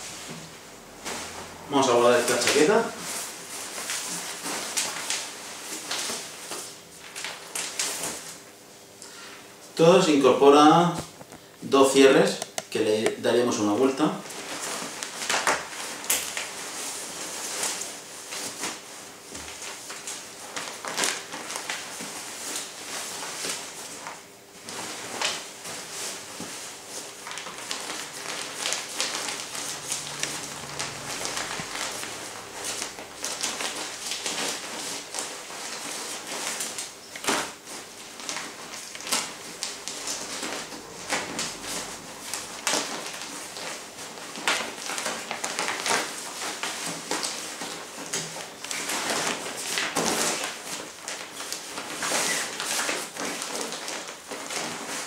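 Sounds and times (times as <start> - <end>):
nylon bag crinkling and rustling: 0.1 - 8.4, 13.5 - 55.0.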